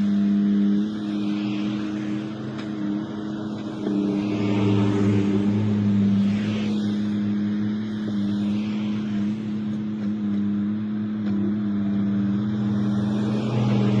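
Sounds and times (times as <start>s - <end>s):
construction machinery engine humming: 0.0s - 14.0s.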